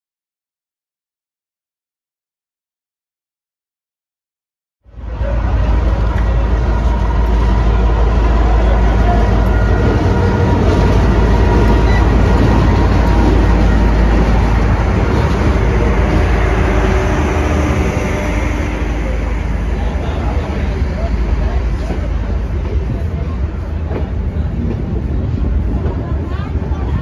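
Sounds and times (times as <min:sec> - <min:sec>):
diesel locomotive rumbling: 0:04.8 - 0:27.0.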